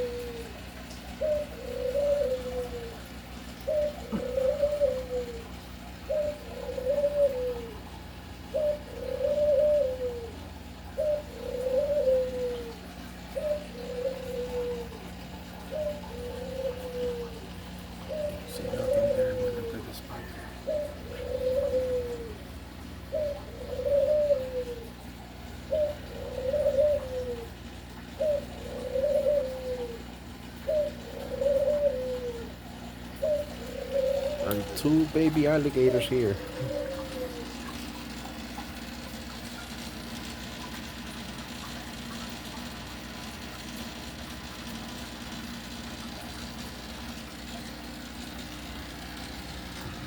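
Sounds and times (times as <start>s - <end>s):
dove cooing: 0.0s - 50.0s.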